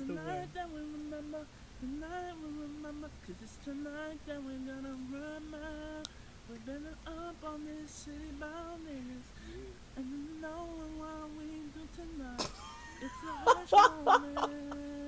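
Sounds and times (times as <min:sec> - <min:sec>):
person singing unaccompanied: 0:00.0 - 0:15.0.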